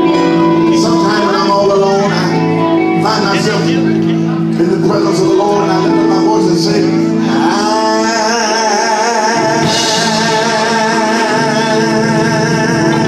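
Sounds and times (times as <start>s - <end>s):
guitar: 0.0s - 13.0s
low bass notes: 0.0s - 13.0s
person singing with vibrato: 0.0s - 13.0s.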